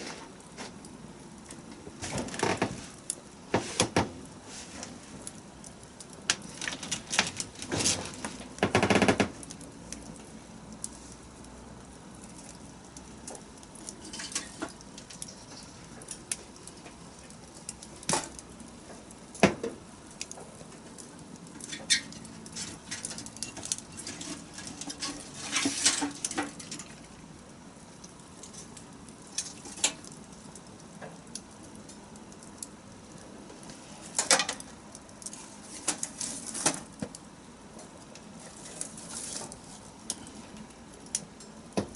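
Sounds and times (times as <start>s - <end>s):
bonfire crackling and popping: 0.0s - 41.9s
soft steady hiss: 0.0s - 41.9s.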